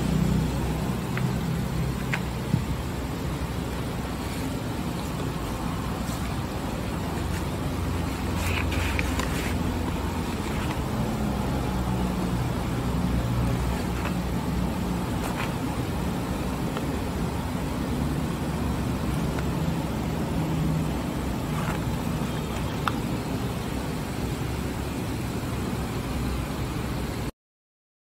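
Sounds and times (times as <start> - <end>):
motor vehicle rumbling: 0.0 - 27.2.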